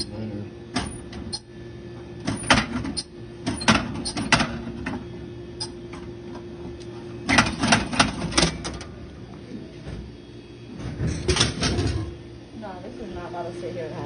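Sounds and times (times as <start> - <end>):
vending machine hum: 0.0 - 14.0.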